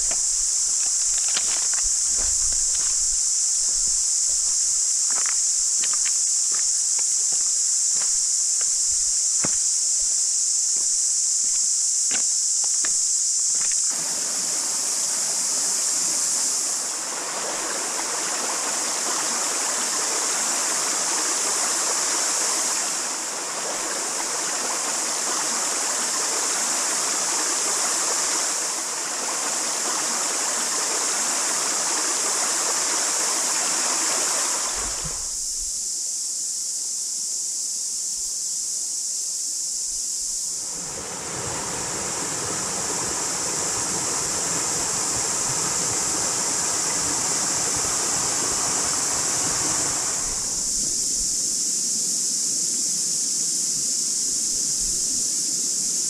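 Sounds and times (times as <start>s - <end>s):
river water over stones: 0.0s - 35.6s, 40.4s - 51.7s
high insect chorus: 0.0s - 56.0s.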